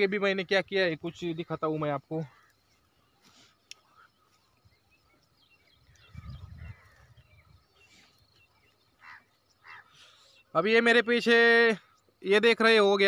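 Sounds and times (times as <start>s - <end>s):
small bird chirps: 1.1s - 12.2s.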